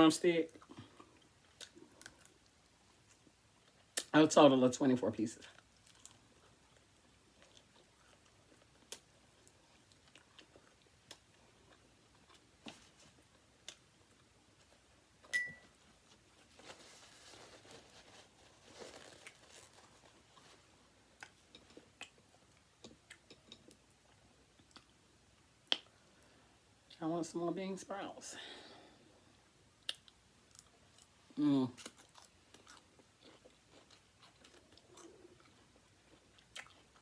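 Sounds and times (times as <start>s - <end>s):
chewing and crunching food: 0.4s - 4.2s, 5.4s - 15.2s, 15.9s - 27.0s, 29.8s - 37.0s.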